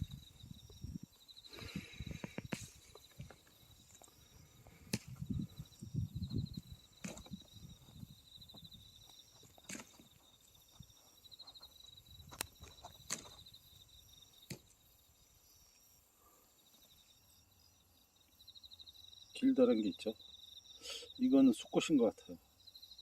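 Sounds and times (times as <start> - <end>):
insect trilling: 0.0 - 23.0.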